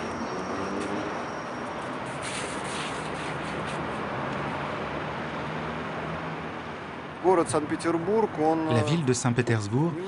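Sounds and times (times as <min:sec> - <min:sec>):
distant road traffic rumble: 0:00.0 - 0:10.0.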